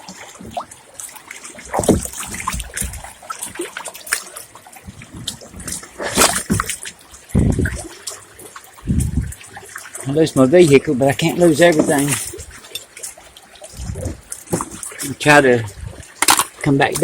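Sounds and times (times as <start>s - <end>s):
water splashing and sloshing: 0.0s - 17.0s
water trickling: 0.0s - 17.0s.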